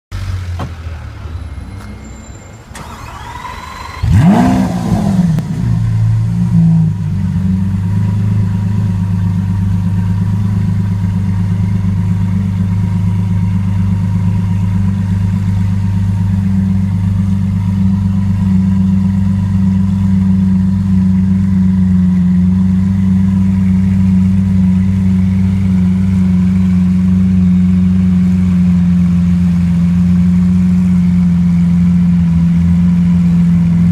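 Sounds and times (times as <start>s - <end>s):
car engine idling: 0.1s - 33.9s
car engine starting and revving: 0.1s - 33.9s.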